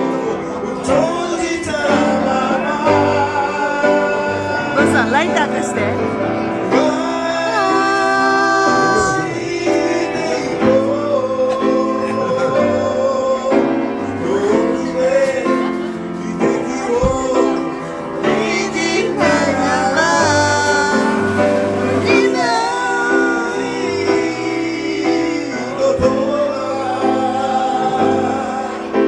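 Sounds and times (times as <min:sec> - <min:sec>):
voices singing a slow ballad: 0:00.0 - 0:29.0.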